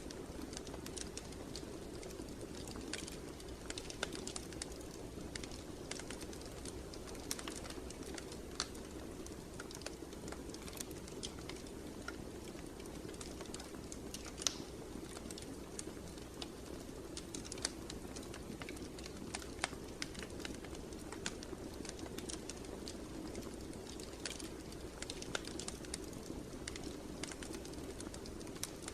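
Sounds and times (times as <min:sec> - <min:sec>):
fire crackling and popping: 0:00.0 - 0:28.9.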